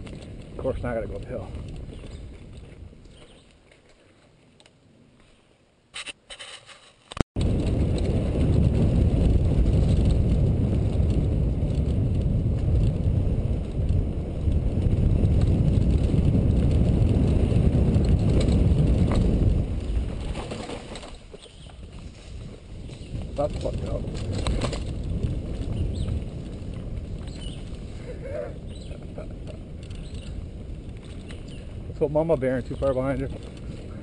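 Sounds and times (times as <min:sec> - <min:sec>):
wind buffeting microphone: 0:00.0 - 0:03.6, 0:07.4 - 0:34.0
tyres running over dirt: 0:00.0 - 0:04.4, 0:07.4 - 0:34.0
bike clicks and rattles: 0:00.0 - 0:04.8, 0:05.9 - 0:34.0.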